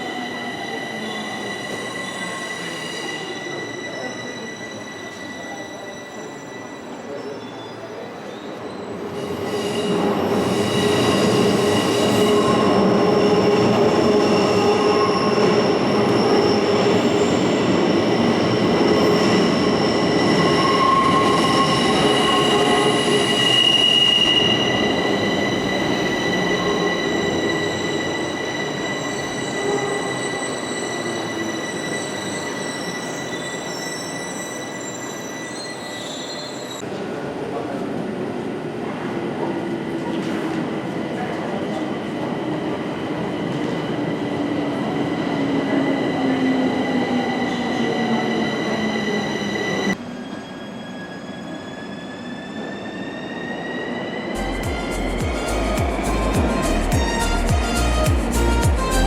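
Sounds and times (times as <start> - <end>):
train running on rails: 0.0 - 59.0.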